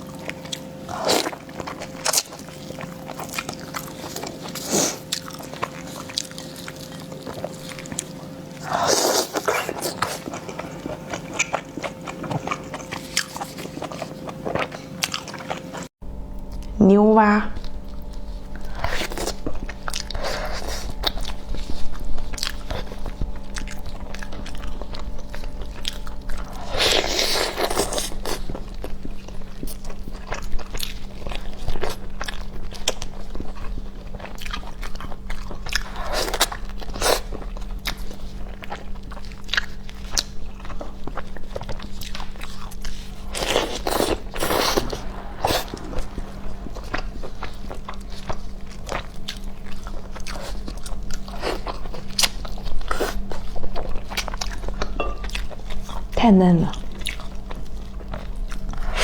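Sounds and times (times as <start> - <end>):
person chewing crunchy food: 0.0 - 15.9, 17.6 - 59.0
steady low hum: 0.0 - 59.0.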